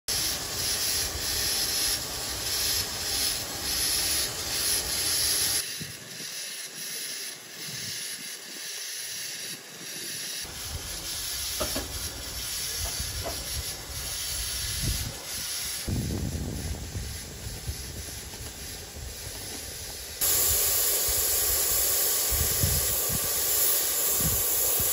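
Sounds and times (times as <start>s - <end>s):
steam hissing: 0.1s - 24.9s.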